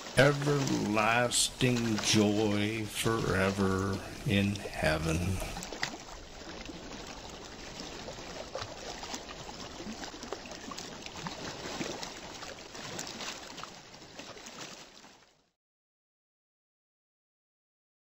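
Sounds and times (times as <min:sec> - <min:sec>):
brook babbling: 0:00.0 - 0:15.4
water splashing and dripping: 0:00.0 - 0:15.5.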